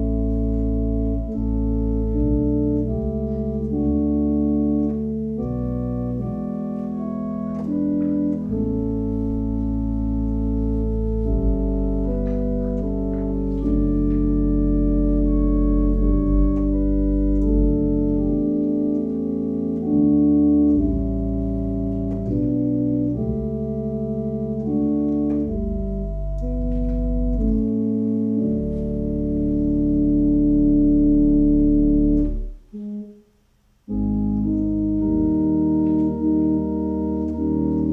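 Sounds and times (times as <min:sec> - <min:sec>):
deep bass line: 0:00.0 - 0:33.0, 0:33.8 - 0:37.9
organ playing sustained chords: 0:00.0 - 0:37.9.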